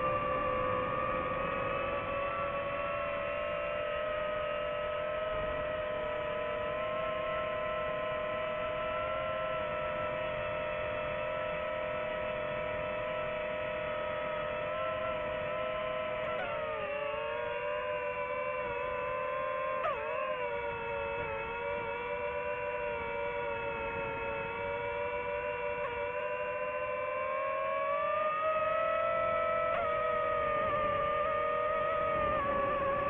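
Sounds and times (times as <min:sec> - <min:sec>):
drone propellers whining: 0:00.0 - 0:33.0.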